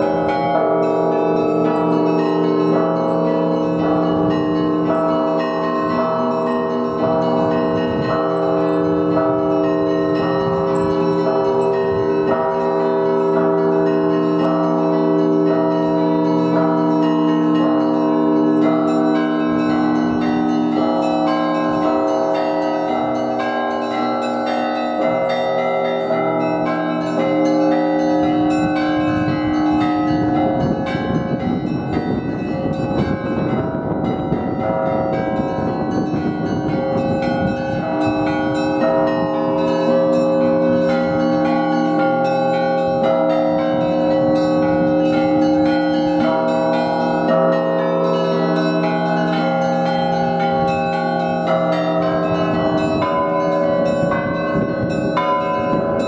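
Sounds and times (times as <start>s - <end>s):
large church bells ringing: 0.0s - 56.0s.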